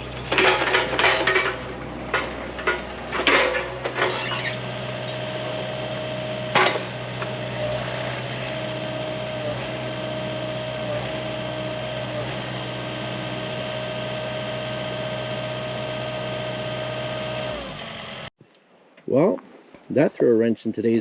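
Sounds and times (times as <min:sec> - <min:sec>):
excavator engine humming and whining: 0:00.0 - 0:18.3.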